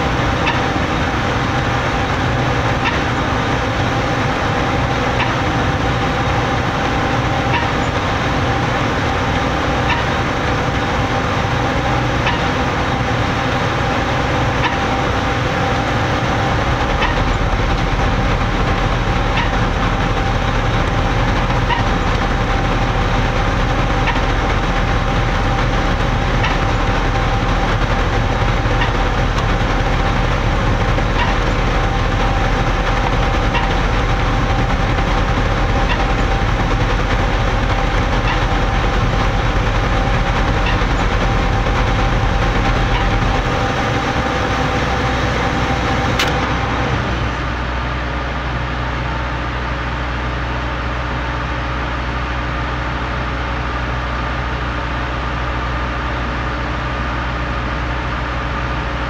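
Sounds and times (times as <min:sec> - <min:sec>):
concrete pump machinery din: 0:00.0 - 0:59.0.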